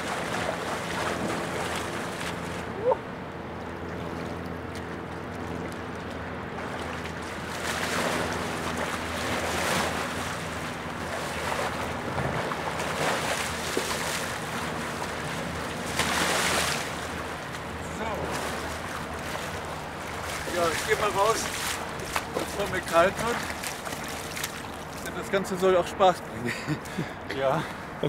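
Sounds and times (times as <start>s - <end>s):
person wading through water: 0.0s - 25.1s
boat engine drone: 0.0s - 28.0s.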